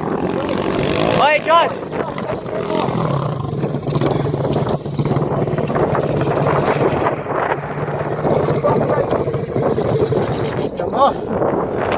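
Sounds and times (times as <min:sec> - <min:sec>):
motorbike engine running hard: 0:00.0 - 0:10.8.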